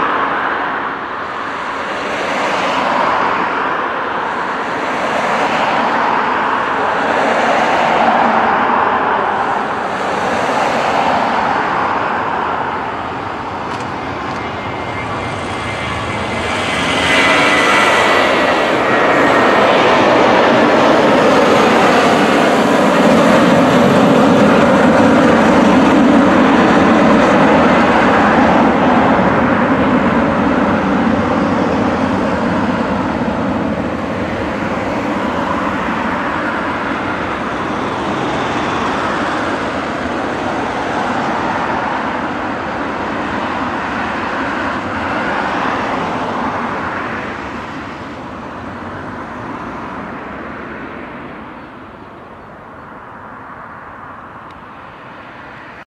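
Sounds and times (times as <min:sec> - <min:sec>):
jet engines roaring: 0:00.0 - 0:55.9.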